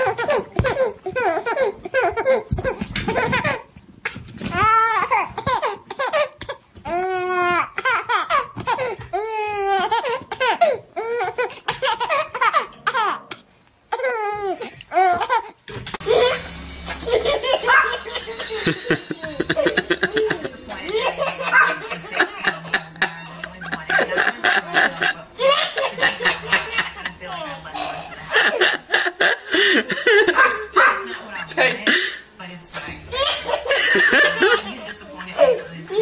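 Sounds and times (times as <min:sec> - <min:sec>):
baby laughing: 0:00.0 - 0:31.7, 0:33.1 - 0:36.0.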